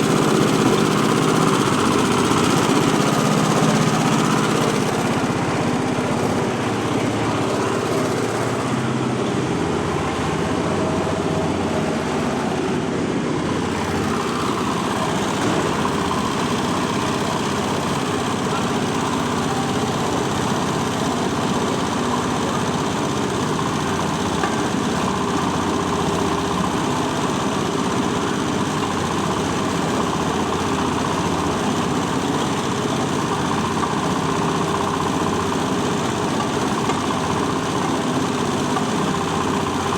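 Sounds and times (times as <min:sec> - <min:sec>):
husk peeling machine running: 0:00.0 - 0:39.9.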